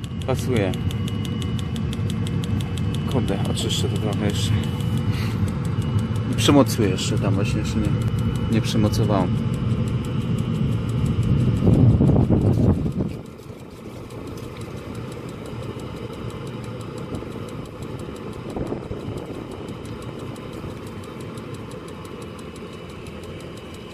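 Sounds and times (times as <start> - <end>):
faint high whine: 0.0 - 23.9
fuel pump ticking: 0.0 - 23.9
heater humming: 0.0 - 23.9.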